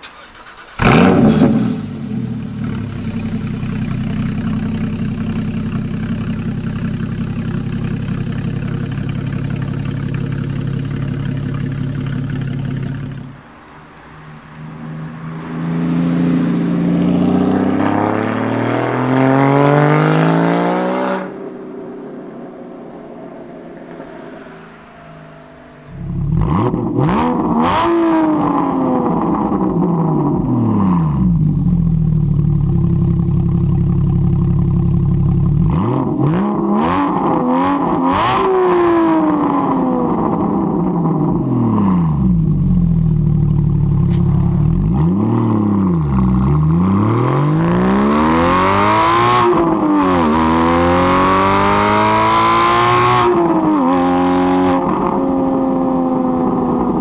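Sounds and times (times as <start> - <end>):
sports car engine revving: 0.0 - 13.4, 14.0 - 57.0
exhaust cracks: 0.0 - 13.8, 14.4 - 48.6.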